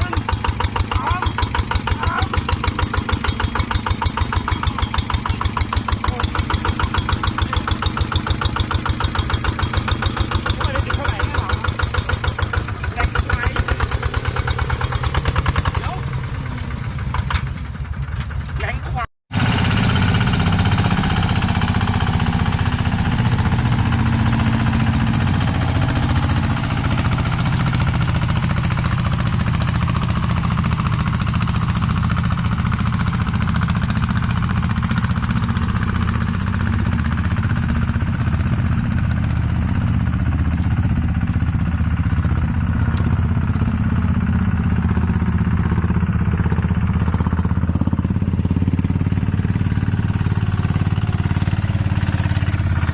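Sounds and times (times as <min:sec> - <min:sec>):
engine running loudly: 0:00.0 - 0:52.9.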